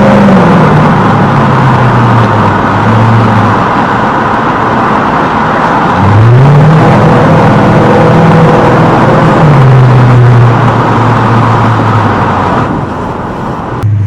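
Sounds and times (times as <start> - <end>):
car engine accelerating in tunnel: 0.0 - 14.0.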